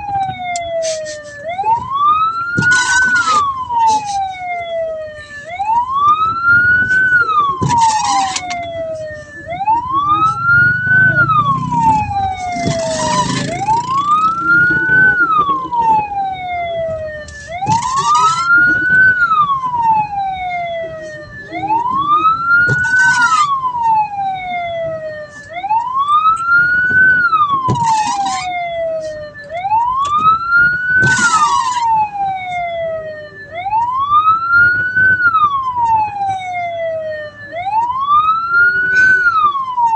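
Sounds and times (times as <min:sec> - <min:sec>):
electronic siren wailing: 0:00.0 - 0:39.9
low traffic rumble: 0:00.0 - 0:39.9
short harsh siren bursts: 0:00.0 - 0:39.9.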